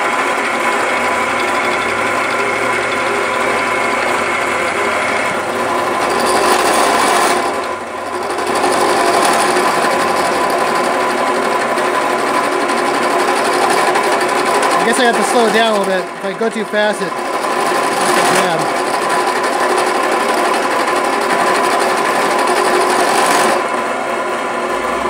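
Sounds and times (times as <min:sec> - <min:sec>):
drill press motor whine: 0:00.0 - 0:25.0
end mill scraping metal: 0:00.3 - 0:23.6.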